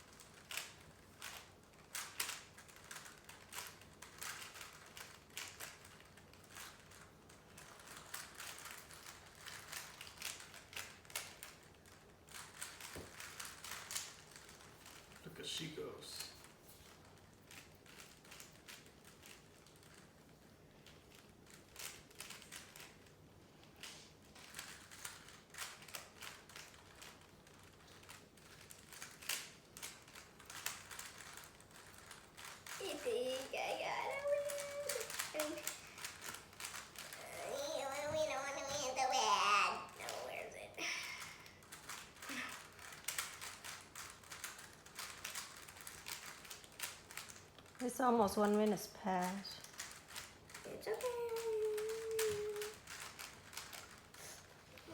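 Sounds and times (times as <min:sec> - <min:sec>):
puzzle cube plastic clicks: 0:00.0 - 0:15.7, 0:16.4 - 0:20.2, 0:20.8 - 0:40.4, 0:41.2 - 0:47.8, 0:48.4 - 0:54.9.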